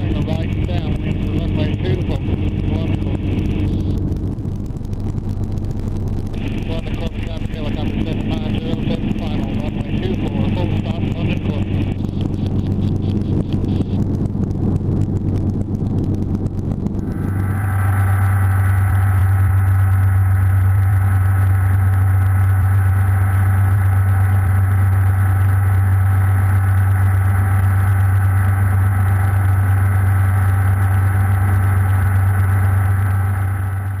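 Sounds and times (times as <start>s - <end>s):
helicopter engine and rotor drone: 0.0s - 34.0s
helicopter high whine: 0.0s - 34.0s.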